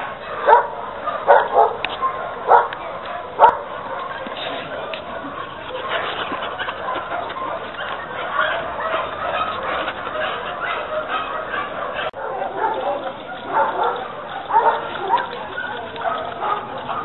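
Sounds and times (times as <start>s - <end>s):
animals calling: 0.0s - 17.0s.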